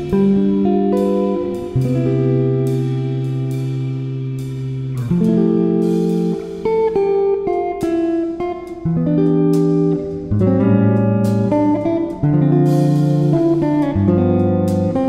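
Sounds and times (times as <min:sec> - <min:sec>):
guitar tune: 0:00.0 - 0:15.0
light percussion: 0:00.0 - 0:15.0.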